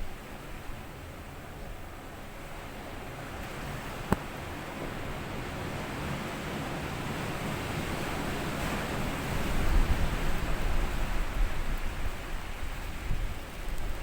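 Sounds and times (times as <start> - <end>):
waves washing on a beach: 0.1 - 14.0.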